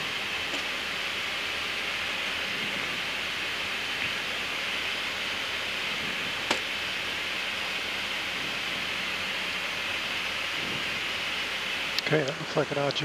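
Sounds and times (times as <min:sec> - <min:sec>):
aircraft engines rushing: 0:00.0 - 0:13.0.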